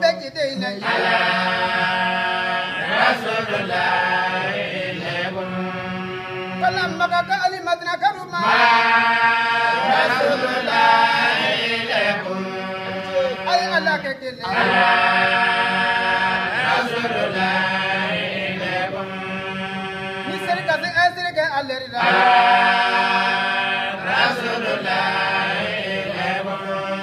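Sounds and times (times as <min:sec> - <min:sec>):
group singing low drone: 0:00.8 - 0:06.9, 0:08.4 - 0:13.8, 0:14.4 - 0:20.8, 0:22.0 - 0:27.0.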